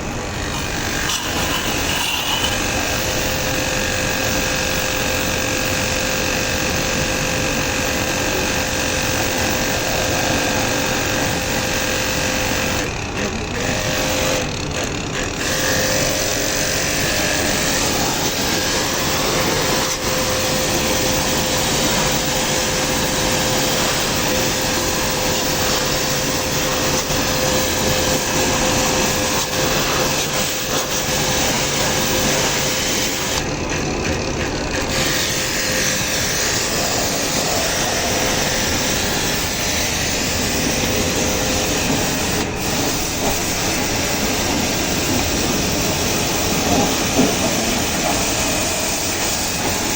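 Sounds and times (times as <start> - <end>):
pump motor hum: 0.0 - 49.9.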